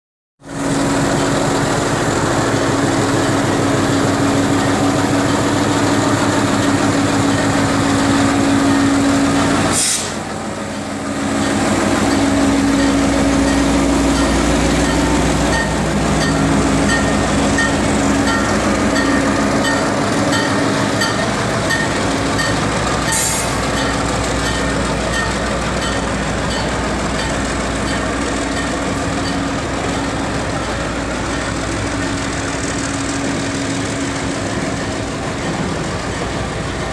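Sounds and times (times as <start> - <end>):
locomotive engine humming: 0.4 - 36.9.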